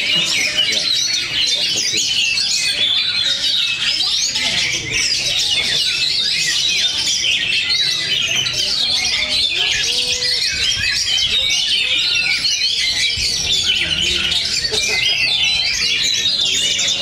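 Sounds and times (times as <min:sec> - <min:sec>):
chorus of songbirds whistling: 0:00.0 - 0:17.0.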